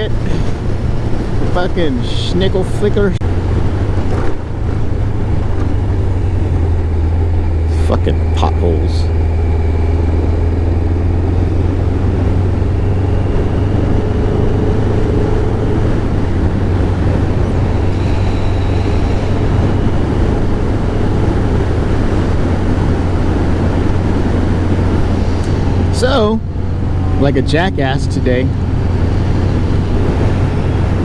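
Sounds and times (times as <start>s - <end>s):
motorcycle engine drone: 0.0s - 31.0s
wind noise rushing: 0.0s - 31.0s.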